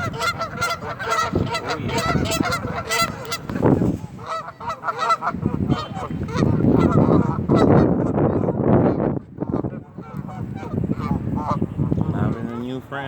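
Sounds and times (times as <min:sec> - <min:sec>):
waterfowl flock calling: 0:00.0 - 0:12.8.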